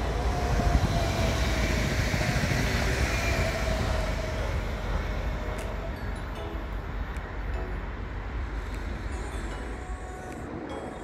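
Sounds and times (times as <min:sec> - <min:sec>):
faint train whine: 0:00.0 - 0:11.0
train passing at speed: 0:00.0 - 0:11.0.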